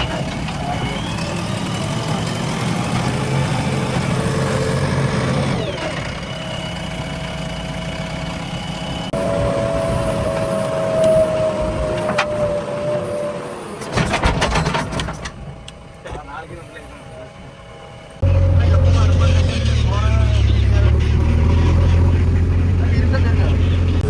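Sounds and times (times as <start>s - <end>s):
diesel engine running: 0.0s - 14.2s, 16.7s - 24.0s
whining tone: 0.0s - 24.0s.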